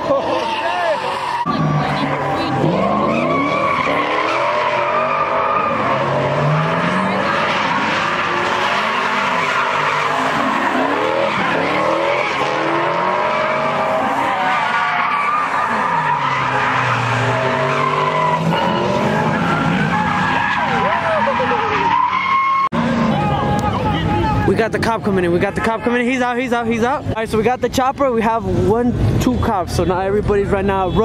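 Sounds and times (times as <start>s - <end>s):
car engines revving: 0.0s - 31.0s
tyres skidding and squealing: 0.0s - 31.0s.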